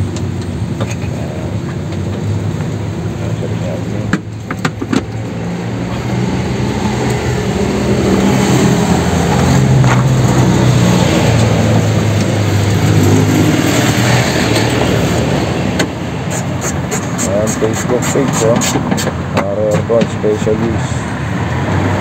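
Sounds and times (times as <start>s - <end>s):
van engine running: 0.0s - 22.0s.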